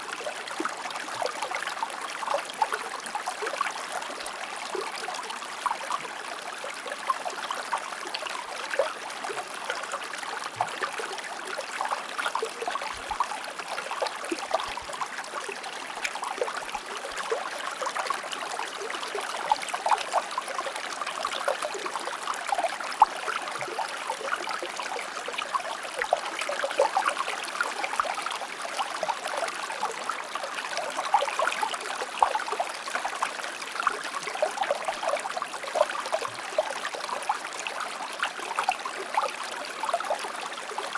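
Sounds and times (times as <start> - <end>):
shallow stream flowing: 0.0 - 40.9.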